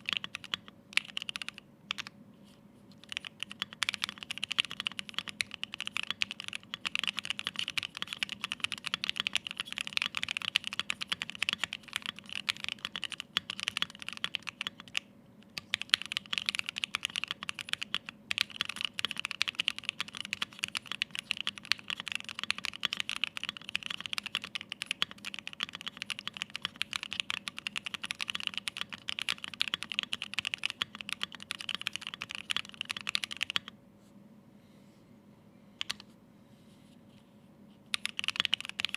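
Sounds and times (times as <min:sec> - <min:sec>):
fast mechanical keyboard typing: 0:00.0 - 0:02.1, 0:03.0 - 0:33.7, 0:35.8 - 0:36.0, 0:37.9 - 0:38.9.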